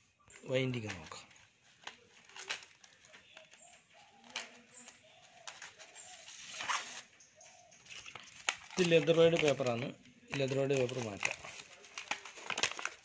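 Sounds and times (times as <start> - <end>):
clicks and rustling of handling: 0.2 - 6.9, 7.6 - 13.0.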